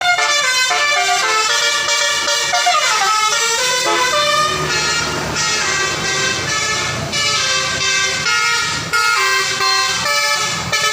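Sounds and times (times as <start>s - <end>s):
multi-tone horn playing a tune: 0.0s - 10.9s
vehicle engine rumbling: 0.0s - 10.9s.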